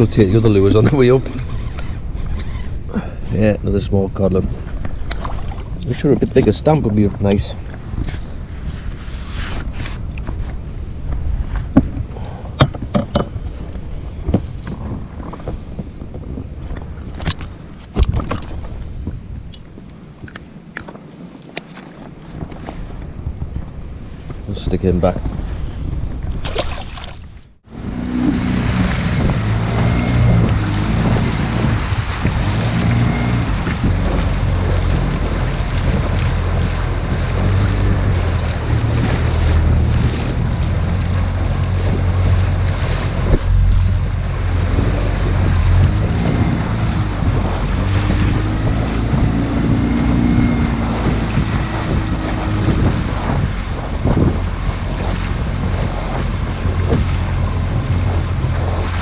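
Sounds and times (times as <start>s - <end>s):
sea water splashing against hull: 0.0s - 59.0s
wind buffeting microphone: 0.0s - 59.0s.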